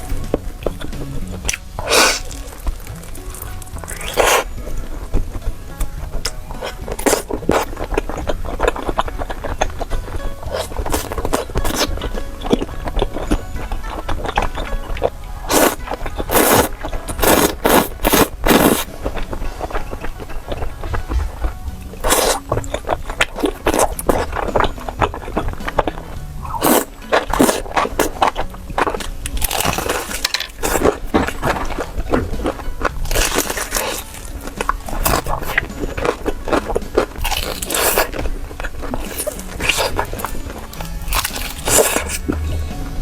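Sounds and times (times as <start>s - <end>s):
crunchy chewing: 0.0s - 42.4s.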